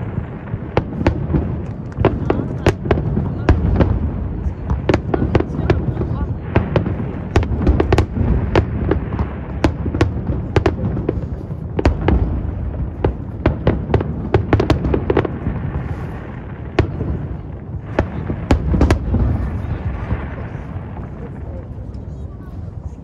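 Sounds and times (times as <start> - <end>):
fireworks bangs and cracks: 0.0 - 23.0.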